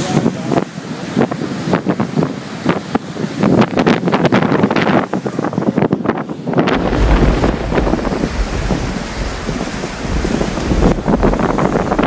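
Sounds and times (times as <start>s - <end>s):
waves breaking: 0.0s - 12.0s
wind buffeting microphone: 0.0s - 12.0s.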